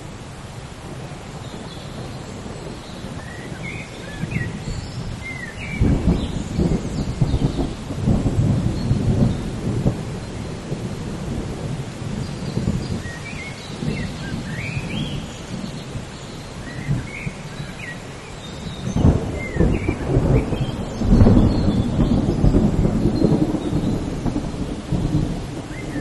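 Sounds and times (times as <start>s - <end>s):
steady rain: 0.0s - 26.0s
thunder rumbling: 0.9s - 17.8s, 18.6s - 26.0s.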